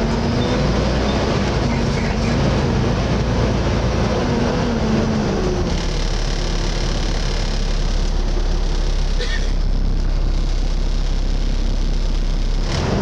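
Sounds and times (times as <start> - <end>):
bus diesel engine hum: 0.0 - 13.0
pitched drone: 0.0 - 13.0.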